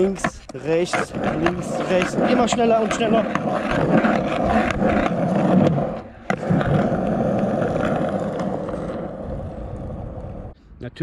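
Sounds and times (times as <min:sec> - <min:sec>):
skateboard wheels rolling on asphalt: 0:00.0 - 0:10.6.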